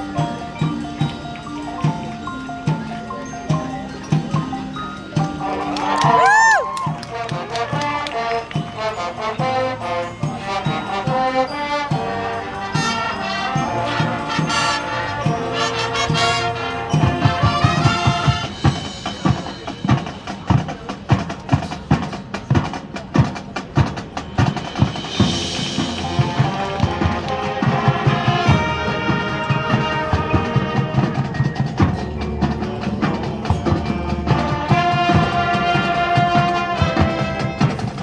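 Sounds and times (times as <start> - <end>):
brass chords: 0.0 - 19.7, 24.3 - 38.0
marching drums pounding: 0.0 - 38.0.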